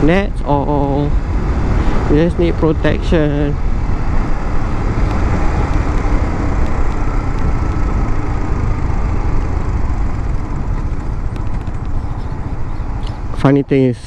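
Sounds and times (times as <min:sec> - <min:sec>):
wind rushing: 0:00.0 - 0:13.4
motorcycle engine: 0:00.0 - 0:13.6.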